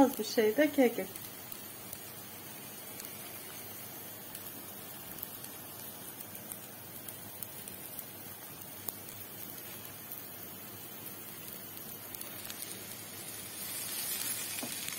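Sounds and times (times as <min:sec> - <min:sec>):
paste frying in oil: 0:00.0 - 0:14.9
pops and crackles: 0:01.0 - 0:14.9.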